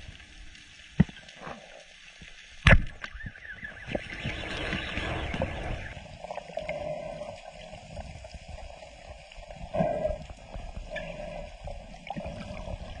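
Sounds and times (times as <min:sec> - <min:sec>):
underwater water sloshing: 0:00.1 - 0:13.0.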